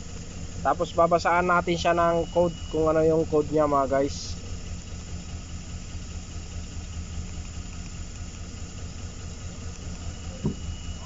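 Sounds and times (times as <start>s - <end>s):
misfiring engine idling: 0.0s - 11.0s.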